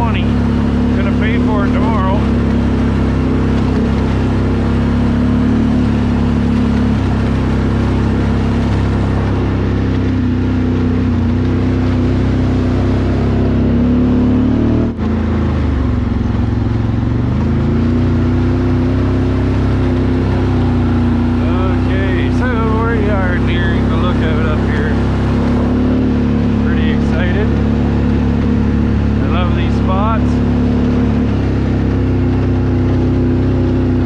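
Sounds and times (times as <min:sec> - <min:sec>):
atv engine running: 0:00.0 - 0:34.0
tyres on gravel trail: 0:00.0 - 0:34.0.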